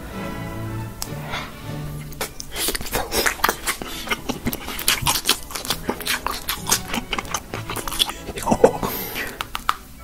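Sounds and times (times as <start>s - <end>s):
background music: 0.0s - 10.0s
crunchy chewing of fried food: 1.0s - 10.0s.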